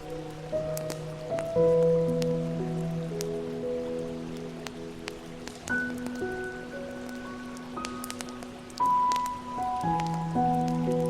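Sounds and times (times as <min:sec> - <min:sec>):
fireplace crackling: 0:00.0 - 0:11.0
soft slow piano music: 0:00.0 - 0:11.0.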